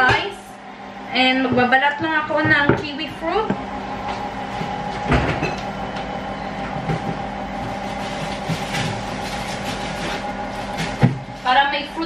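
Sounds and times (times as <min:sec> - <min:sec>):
tumble dryer running: 0:00.0 - 0:12.0.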